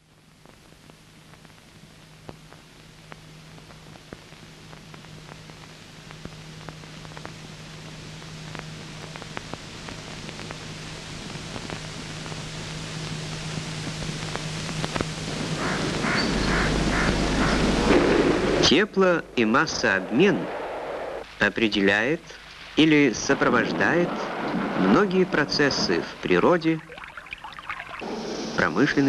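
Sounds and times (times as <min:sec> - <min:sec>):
film soundtrack hiss and crackle: 0:00.0 - 0:29.0
steady low hum: 0:00.0 - 0:29.0.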